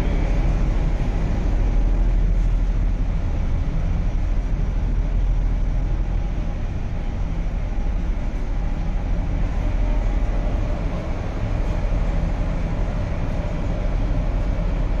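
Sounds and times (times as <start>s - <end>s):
low rumble and hum inside railcar: 0.0s - 15.0s.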